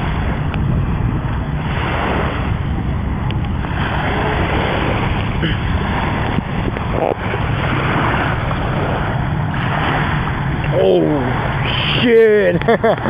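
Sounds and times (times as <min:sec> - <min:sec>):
surf washing: 0:00.0 - 0:13.0
wind rumbling on microphone: 0:00.0 - 0:13.0.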